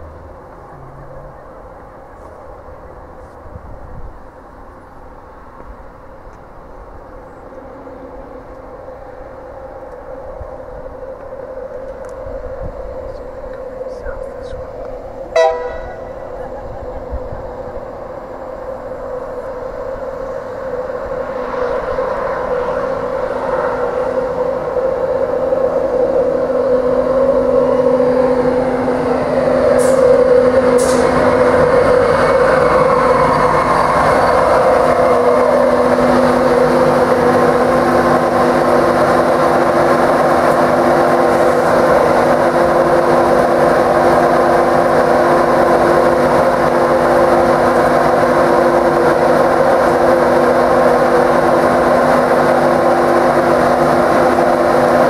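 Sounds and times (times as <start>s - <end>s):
electric locomotive motor whine: 0.0s - 55.0s.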